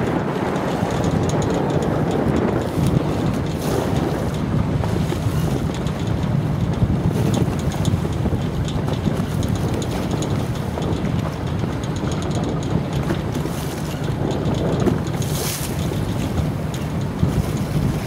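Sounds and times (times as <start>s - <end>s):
choppy water around boat: 0.0s - 18.0s
wind buffeting microphone: 0.0s - 18.0s.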